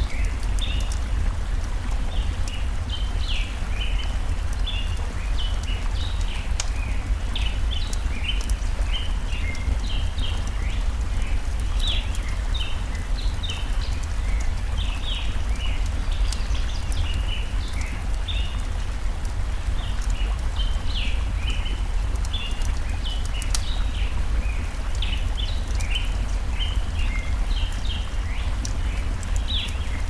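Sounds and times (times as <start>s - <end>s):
stream water rushing: 0.0s - 30.0s
wood fire crackling: 0.0s - 30.0s.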